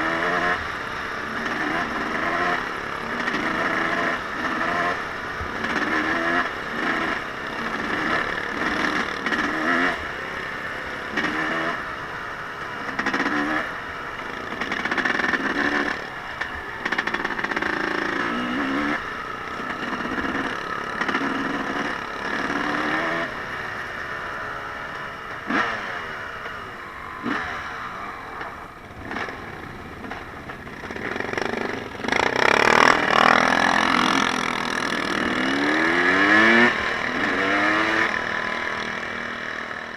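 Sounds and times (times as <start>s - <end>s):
small off-road engine revving: 0.0s - 39.9s.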